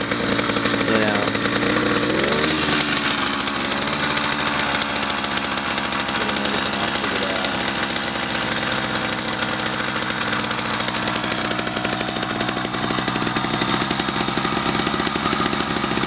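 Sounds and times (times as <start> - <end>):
two-stroke engine idling: 0.0 - 16.0.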